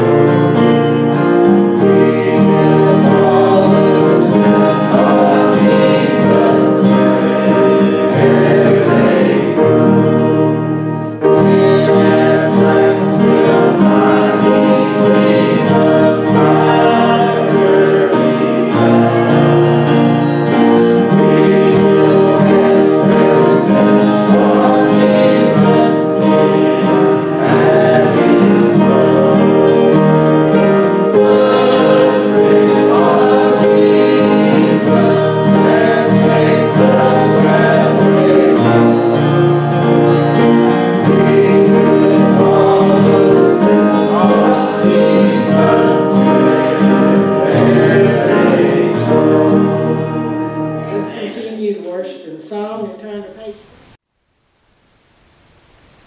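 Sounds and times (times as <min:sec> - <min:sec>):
woman and man singing a hymn: 0:00.0 - 0:51.2
instrumental accompaniment: 0:00.0 - 0:52.0.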